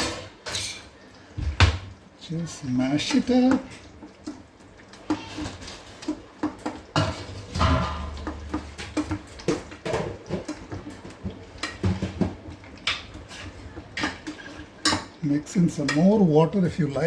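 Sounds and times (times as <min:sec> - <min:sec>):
masher mashing food in a pot: 0:02.2 - 0:16.4.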